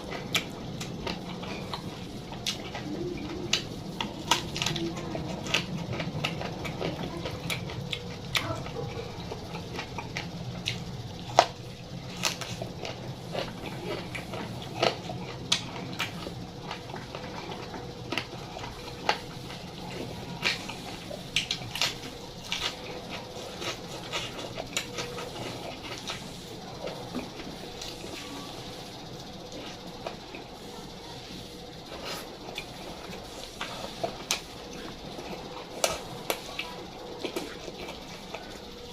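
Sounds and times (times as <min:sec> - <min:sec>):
chewing with wet smacks: 0:00.0 - 0:38.9
steady low hum: 0:00.0 - 0:38.9.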